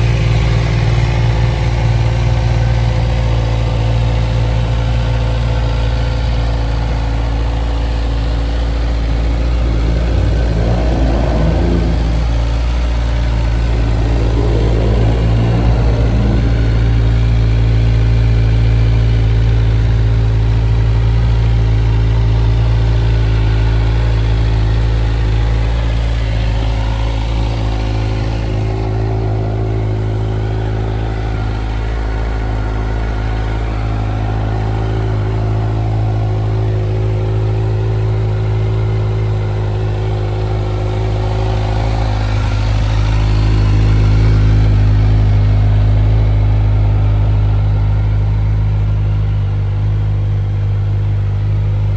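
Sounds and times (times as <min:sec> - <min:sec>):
motorcycle engine idling: 0:00.0 - 0:51.9.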